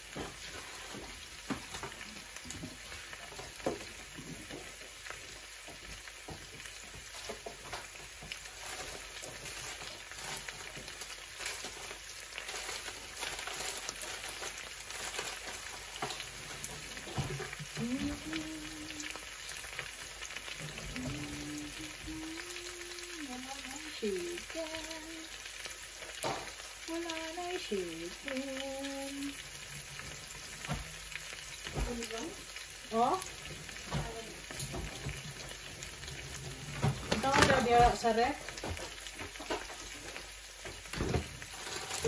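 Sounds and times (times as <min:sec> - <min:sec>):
food sizzling in a frying pan: 0:00.0 - 0:42.0.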